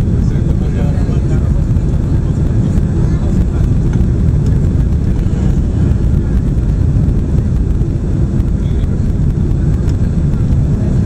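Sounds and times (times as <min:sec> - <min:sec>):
airliner cabin roar: 0:00.0 - 0:11.0.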